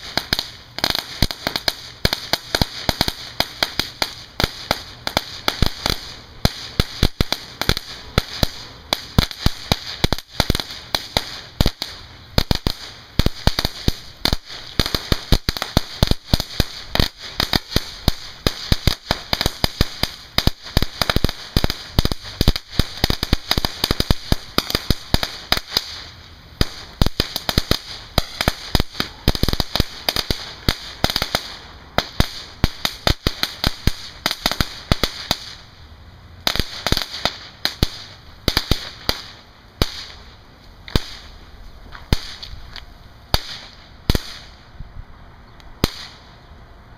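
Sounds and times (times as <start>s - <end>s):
fuse sizzle: 0.0s - 44.7s
firecracker crackling: 0.0s - 46.5s.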